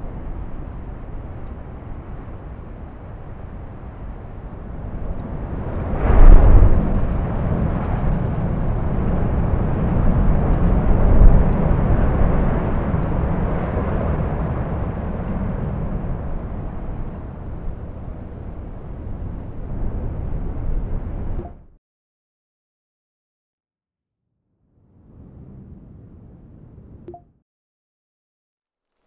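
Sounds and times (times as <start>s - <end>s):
deep noisy rumble: 0.0s - 21.7s, 24.8s - 27.1s.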